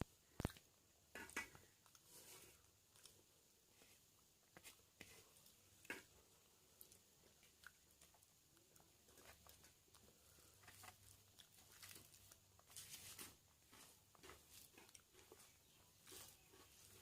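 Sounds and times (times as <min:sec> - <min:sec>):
soft wet chewing: 0:00.0 - 0:17.0.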